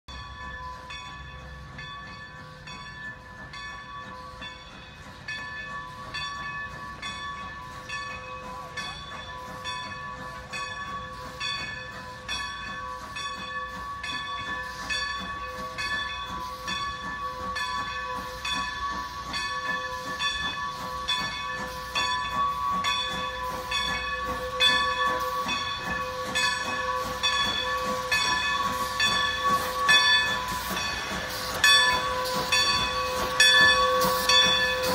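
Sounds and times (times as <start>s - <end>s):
steam locomotive chuffing: 0.1s - 34.9s.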